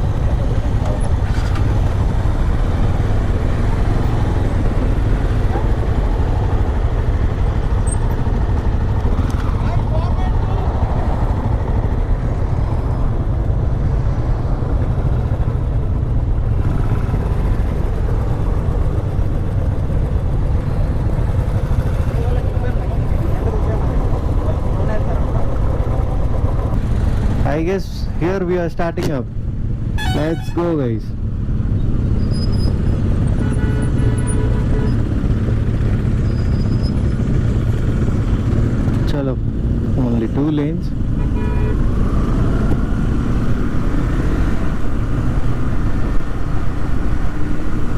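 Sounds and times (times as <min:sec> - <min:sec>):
motorcycle engines idling: 0:00.0 - 0:41.7.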